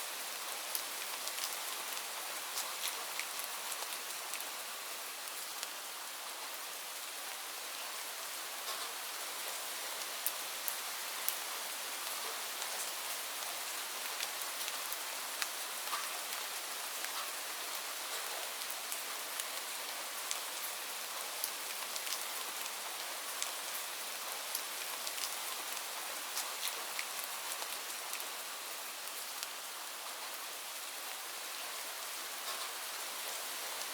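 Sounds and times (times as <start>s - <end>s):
steady rain hiss: 0.0s - 33.9s
raindrops ticking on surface: 0.1s - 6.6s, 8.3s - 33.9s.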